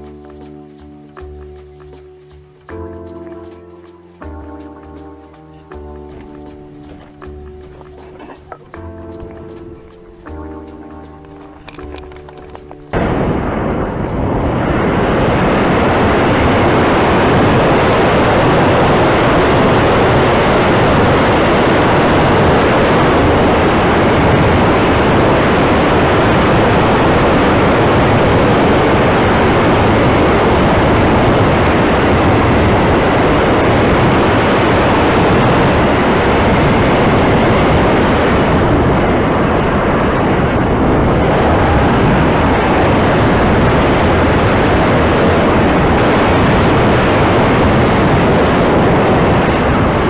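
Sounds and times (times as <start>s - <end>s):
wind buffeting microphone: 2.7s - 50.0s.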